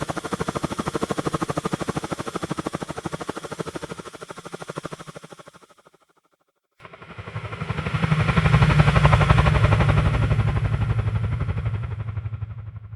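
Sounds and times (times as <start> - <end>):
helicopter rotor blades chopping: 0.0 - 5.8, 6.8 - 12.9.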